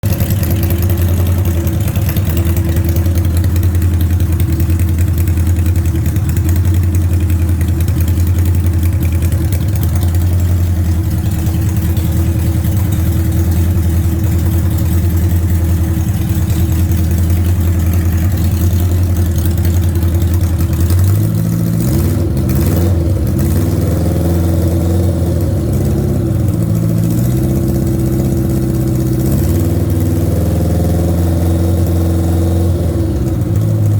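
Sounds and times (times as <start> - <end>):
engine idling unevenly: 0.0 - 33.9.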